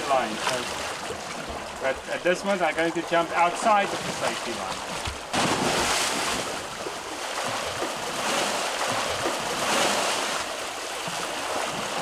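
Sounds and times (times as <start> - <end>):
sea water rushing and splashing: 0.0 - 12.0.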